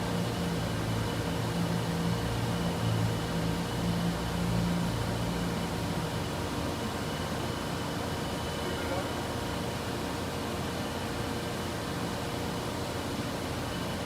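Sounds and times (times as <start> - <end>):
machine hum with low drone: 0.0 - 14.0.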